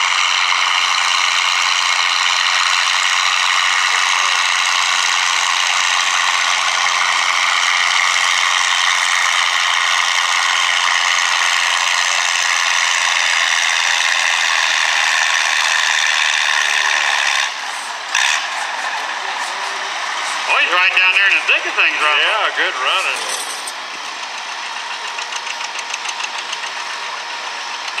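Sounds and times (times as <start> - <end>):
tractor clattering and rattling: 0.0 - 28.0.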